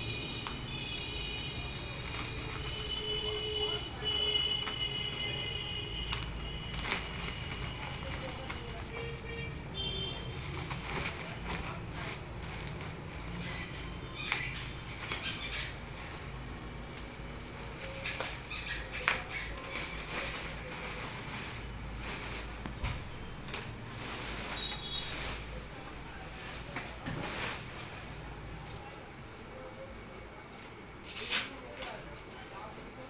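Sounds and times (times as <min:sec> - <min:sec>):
packaging rustling: 0:00.5 - 0:05.3, 0:06.0 - 0:28.2.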